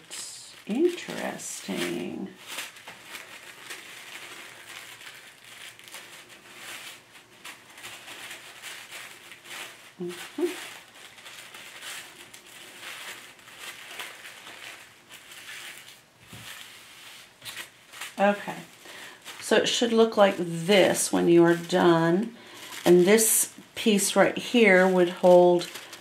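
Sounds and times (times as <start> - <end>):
paper rustling and crinkling: 0.2 - 26.0.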